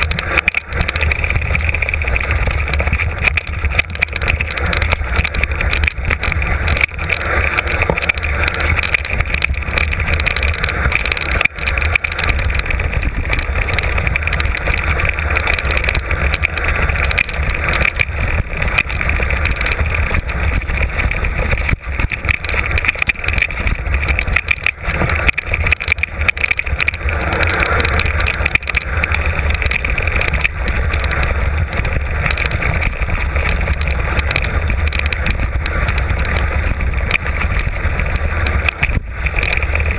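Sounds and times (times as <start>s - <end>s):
bike rattling over rough ground: 0.0s - 39.9s
wind rumble on microphone: 0.0s - 39.9s.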